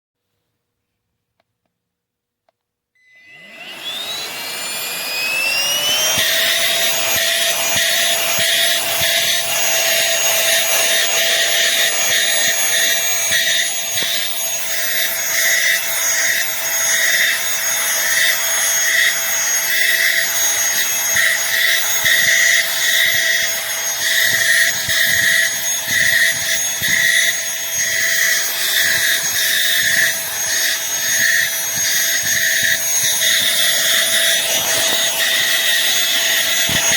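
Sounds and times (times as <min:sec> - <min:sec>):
handheld vacuum cleaner motor whine: 0:03.0 - 0:36.9.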